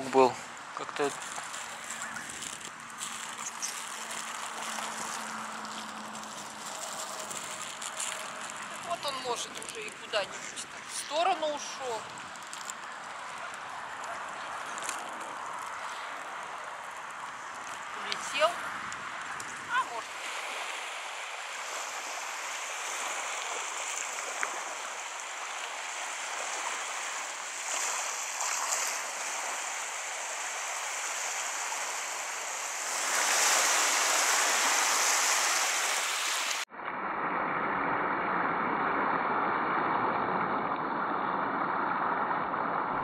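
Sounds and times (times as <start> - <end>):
small waves washing on shore: 0.0 - 36.7.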